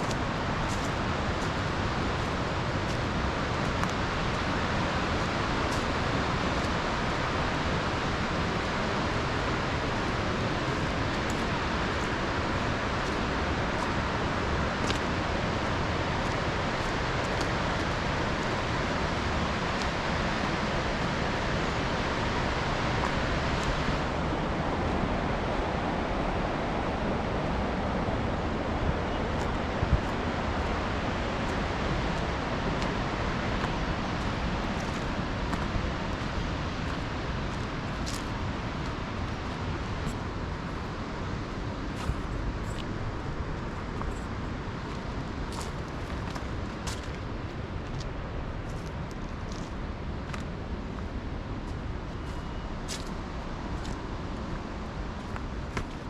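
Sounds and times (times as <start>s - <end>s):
steady rushing noise: 0.0s - 56.0s.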